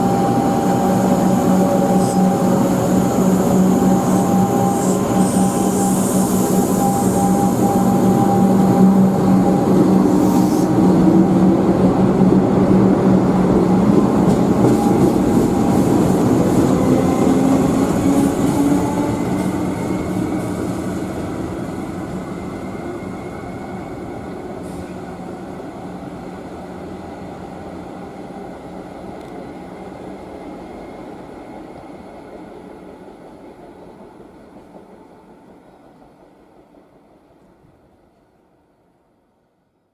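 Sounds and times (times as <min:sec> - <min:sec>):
train running past: 0:00.0 - 0:38.0.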